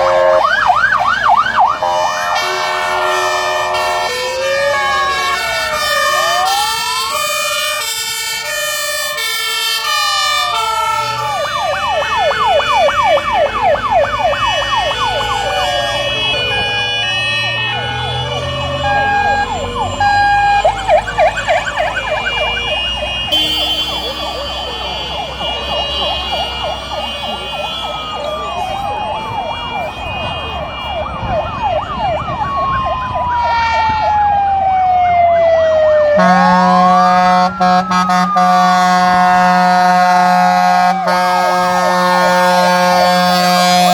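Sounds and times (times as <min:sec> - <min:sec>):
fast siren yelp: 0:00.0 - 0:43.9
fire engine sirens wailing: 0:00.0 - 0:43.9
truck engines rumbling: 0:00.0 - 0:43.9.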